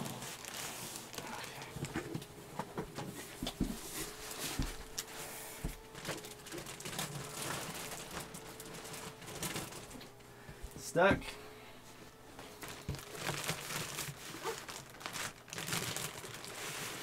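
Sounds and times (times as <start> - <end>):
cardboard rustling and scraping: 0.0 - 10.8, 11.8 - 17.0.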